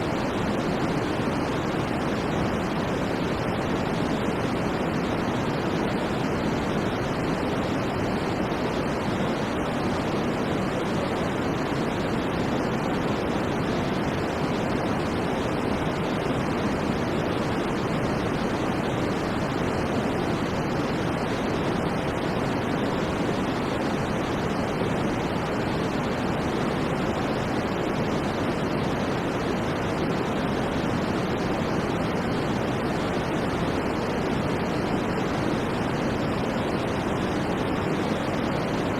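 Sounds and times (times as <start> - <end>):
white noise rushing hiss: 0.0 - 38.9.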